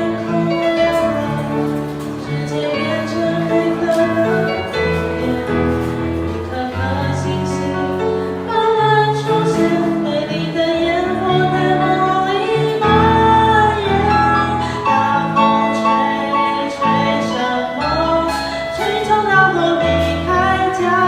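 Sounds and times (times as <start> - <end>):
live band playing pop song: 0.0 - 21.0
person singing: 0.0 - 21.0.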